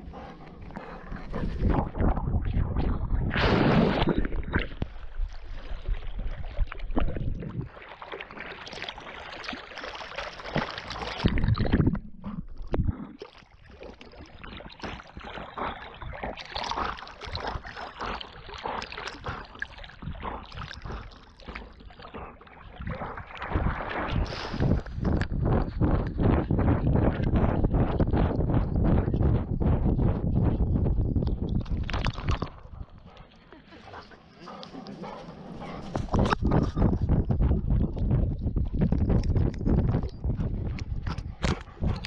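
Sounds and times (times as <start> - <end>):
dog swimming splashing water: 0.0 - 30.8, 31.4 - 42.0.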